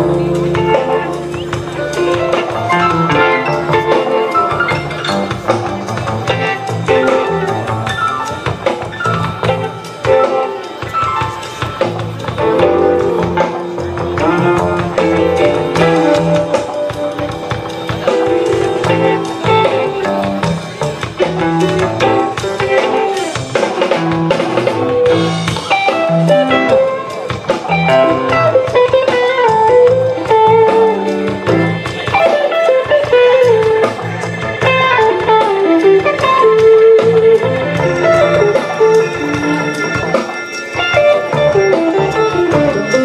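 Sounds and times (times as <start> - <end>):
drum kit: 0.0 - 43.0
electric guitar lead melody: 0.0 - 43.0.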